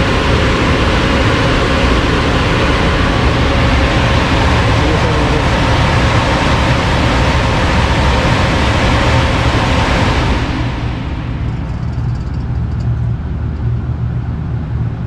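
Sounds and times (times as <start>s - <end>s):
rush of air from blower: 0.0s - 12.3s
low even hum: 0.0s - 15.0s.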